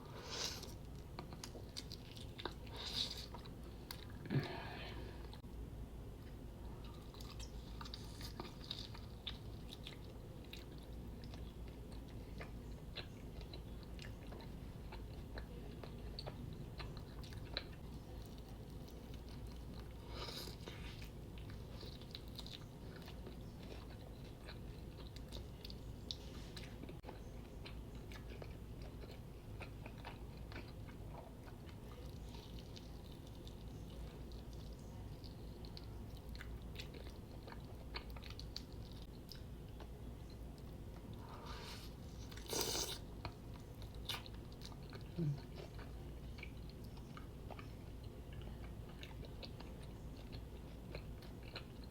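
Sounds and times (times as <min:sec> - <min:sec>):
person chewing: 0:00.2 - 0:05.4, 0:06.8 - 0:51.9.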